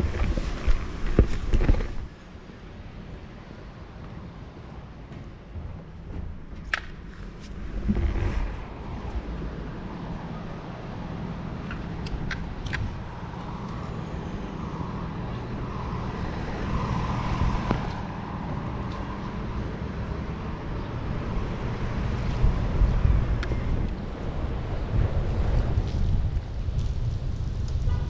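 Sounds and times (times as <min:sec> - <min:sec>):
bicycle riding rumble: 0:00.0 - 0:28.0
vehicles passing: 0:00.0 - 0:28.0.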